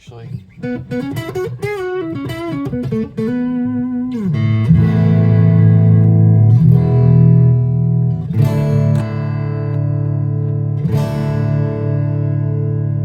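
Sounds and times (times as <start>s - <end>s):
overdriven electric guitar lick: 0.3s - 13.0s
electric guitar chord ringing: 0.6s - 13.0s.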